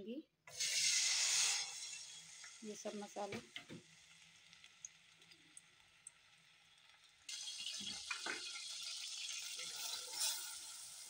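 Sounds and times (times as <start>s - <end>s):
paste sizzling in hot oil: 0.5s - 11.0s.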